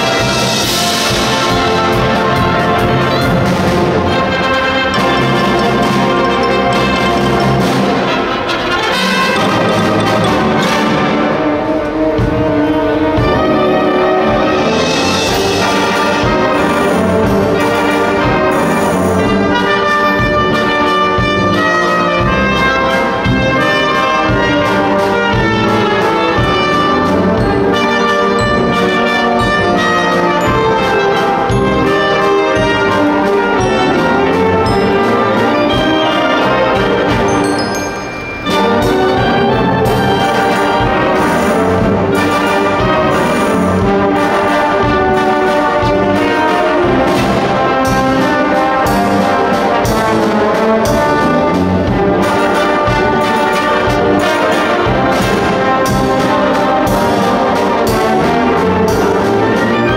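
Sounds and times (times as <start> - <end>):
wind band playing: 0.0 - 59.9.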